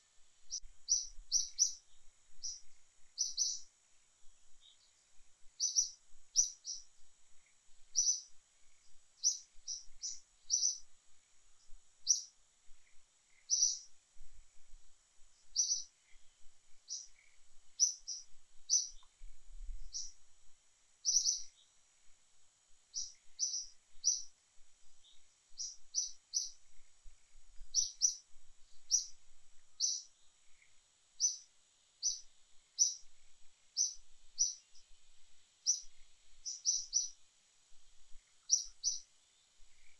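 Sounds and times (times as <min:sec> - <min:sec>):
small bird chirping: 0:00.0 - 0:14.0, 0:14.6 - 0:20.2, 0:20.9 - 0:22.1, 0:22.8 - 0:39.9
faint high hiss: 0:00.0 - 0:39.9.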